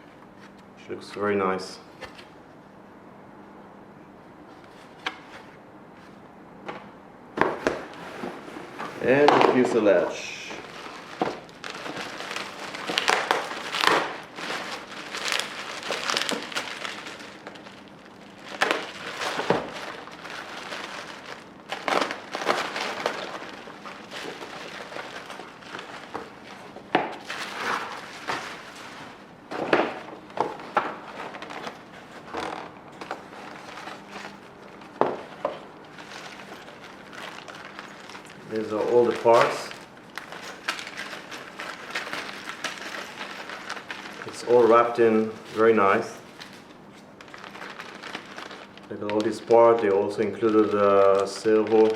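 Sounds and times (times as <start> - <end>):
plastic packaging crinkling: 7.4 - 51.9.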